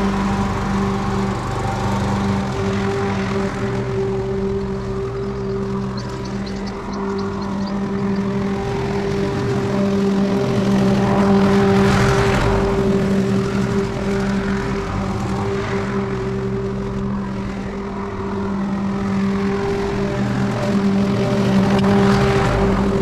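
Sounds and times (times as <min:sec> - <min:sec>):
lawn mower running: 0:00.0 - 0:23.0.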